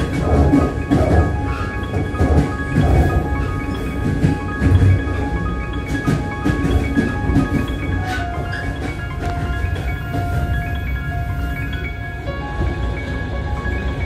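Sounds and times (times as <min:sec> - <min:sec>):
ringing tones over low beats: 0:00.0 - 0:14.0.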